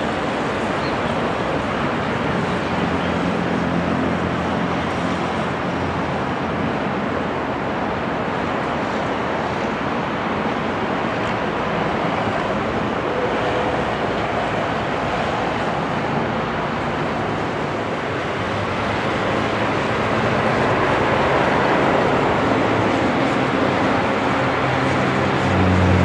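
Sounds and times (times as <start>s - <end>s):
aircraft engine rushing: 0.0s - 26.0s.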